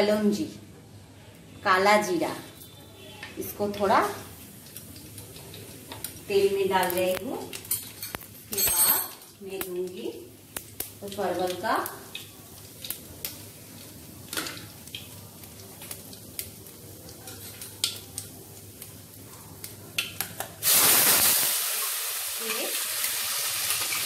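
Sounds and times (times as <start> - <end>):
loud sizzle: 1.2 - 24.0
seeds crackling in hot oil: 1.7 - 24.0.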